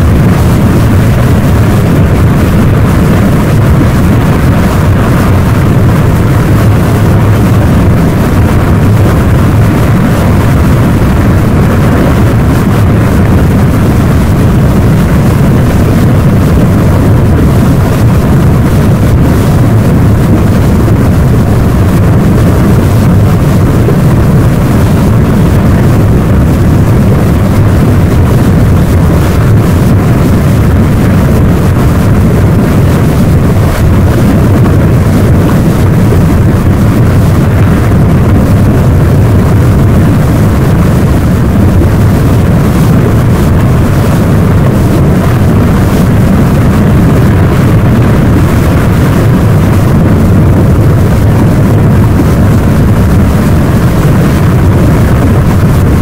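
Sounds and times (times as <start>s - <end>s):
deep volcanic rumble: 0.0s - 56.0s.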